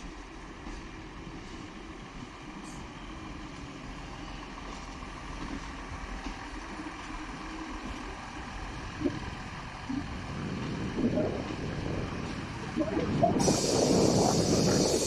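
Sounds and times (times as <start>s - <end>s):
diesel train engines idling: 0.0s - 15.0s.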